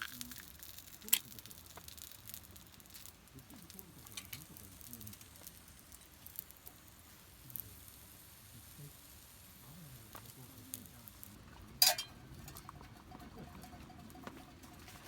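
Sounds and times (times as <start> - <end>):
campfire crackling: 0.0 - 15.0
soft steady hiss: 0.0 - 15.0.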